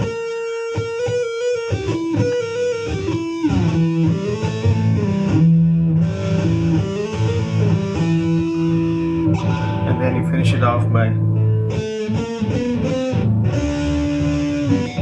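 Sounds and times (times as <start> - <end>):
electric guitar lead: 0.0 - 15.0.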